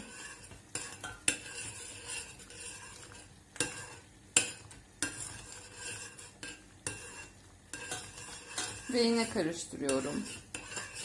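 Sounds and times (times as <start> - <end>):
metal spoon scraping a pot: 0.0 - 11.0.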